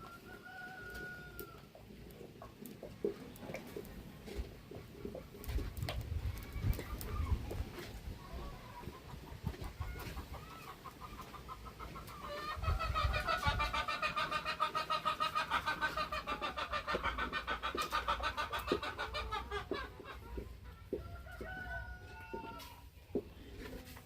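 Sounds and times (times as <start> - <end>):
chicken clucking: 0.0 - 24.0.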